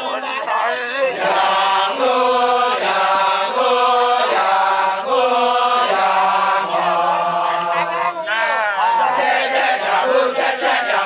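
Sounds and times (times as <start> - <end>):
chorus of men chanting: 0.0 - 11.0.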